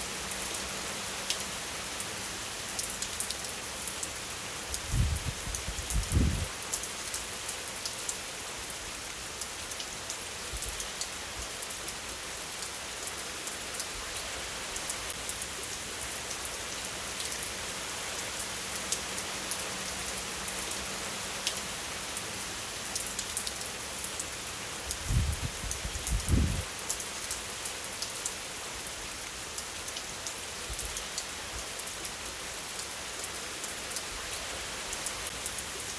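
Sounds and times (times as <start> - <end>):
steady rain: 0.0 - 35.9.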